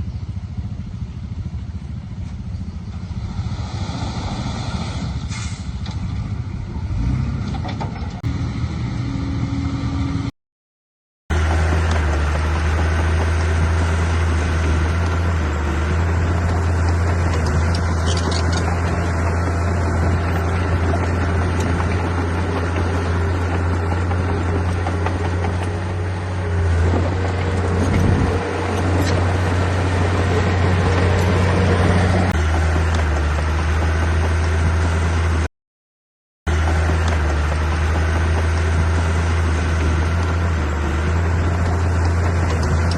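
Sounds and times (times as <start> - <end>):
heavy diesel engine droning: 0.0 - 10.3, 11.3 - 35.5, 36.5 - 42.9.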